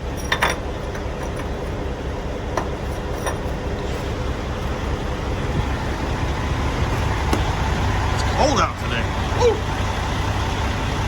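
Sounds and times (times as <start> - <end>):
diesel trucks idling: 0.0 - 11.0.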